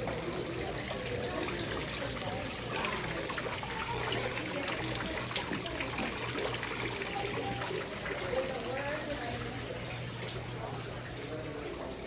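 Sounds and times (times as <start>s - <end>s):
fountain water trickling into basin: 0.0s - 12.0s.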